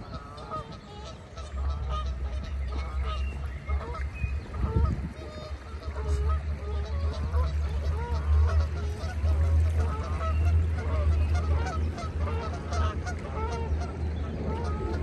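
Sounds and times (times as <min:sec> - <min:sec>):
geese honking: 0:00.0 - 0:15.0
steady low rumble: 0:00.0 - 0:15.0.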